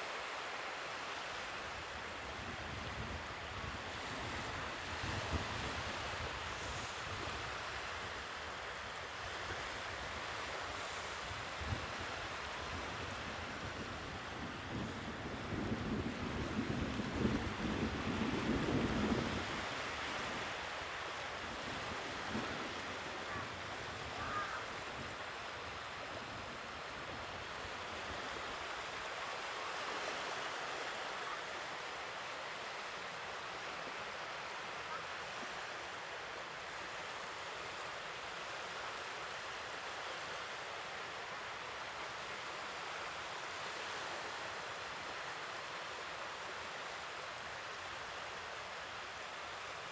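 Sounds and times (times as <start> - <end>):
sea waves washing onto shore: 0.0 - 49.9.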